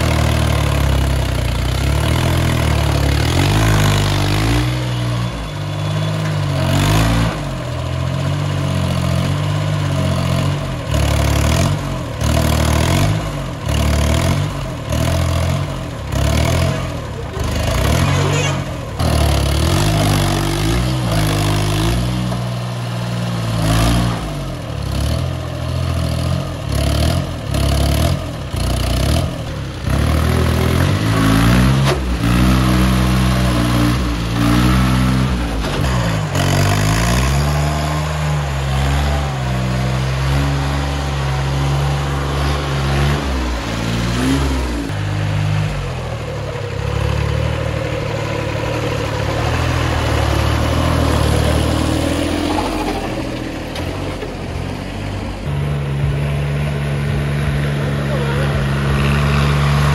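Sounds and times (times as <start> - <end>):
tractor diesel engine working hard: 0.0 - 59.9.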